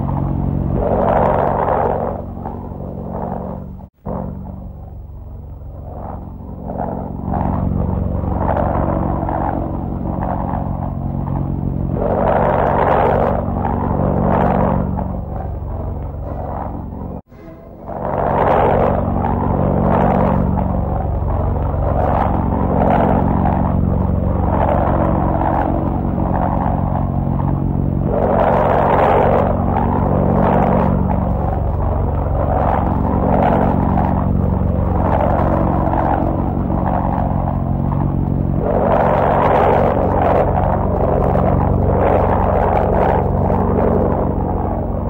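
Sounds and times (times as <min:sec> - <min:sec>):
propeller engine droning: 0:00.0 - 0:45.0
rushing noise: 0:00.0 - 0:45.0.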